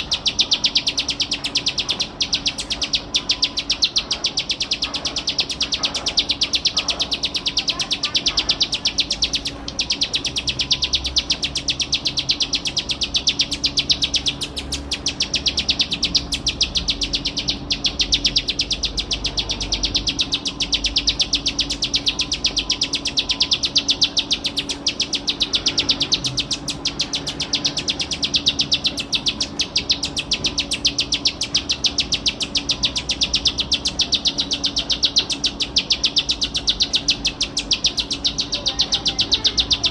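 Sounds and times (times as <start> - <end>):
bird trilling: 0.0 - 39.9.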